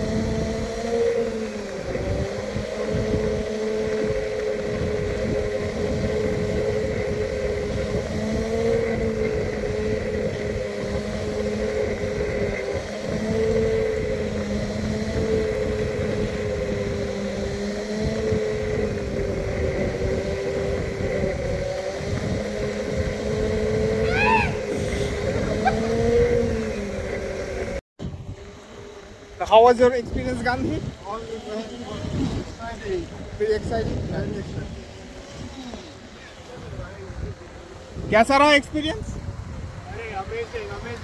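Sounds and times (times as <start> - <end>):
electric motors whining: 0.0 - 41.0
wind buffeting microphone: 0.0 - 41.0.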